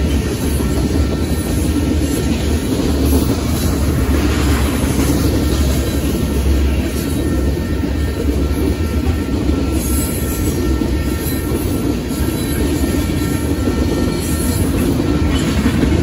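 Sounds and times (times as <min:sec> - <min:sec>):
high-pitched wheel squeals: 0:00.0 - 0:15.7
steel wheels rumbling on rail: 0:00.0 - 0:16.0.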